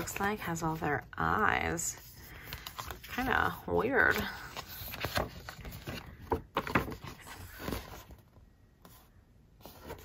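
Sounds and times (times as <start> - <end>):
paper rustling and crinkling: 0.0 - 8.3.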